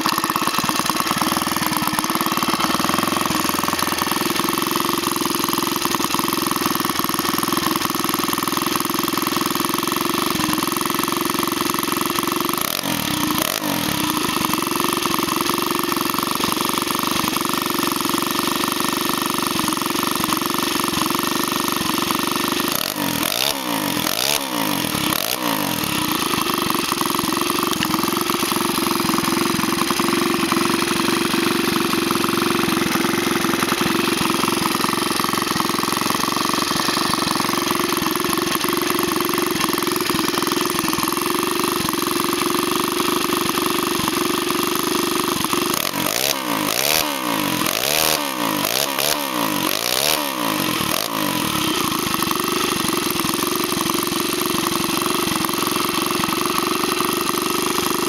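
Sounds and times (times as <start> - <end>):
small engine running steadily: 0.0 - 58.0.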